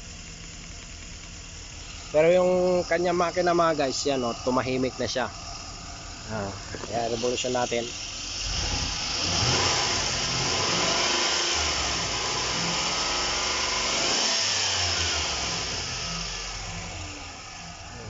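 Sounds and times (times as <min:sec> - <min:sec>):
van engine revving: 0:00.0 - 0:18.0.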